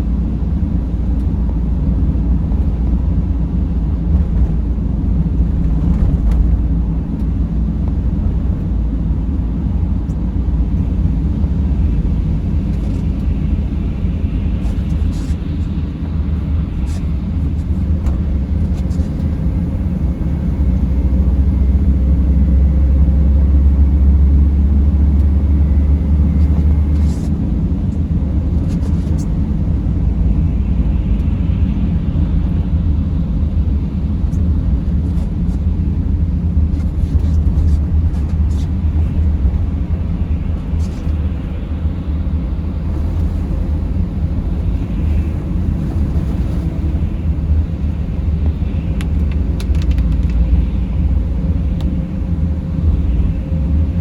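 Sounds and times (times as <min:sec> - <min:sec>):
deep loud drone: 0:00.0 - 0:35.0, 0:35.6 - 0:54.0
vehicle driving on snowy road: 0:00.0 - 0:54.0.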